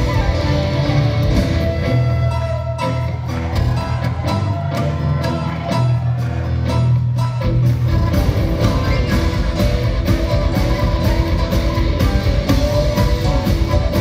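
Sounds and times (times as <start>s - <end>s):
bass guitar: 0.0s - 14.0s
drum kit driving beat: 0.0s - 14.0s
electric guitars: 0.0s - 14.0s.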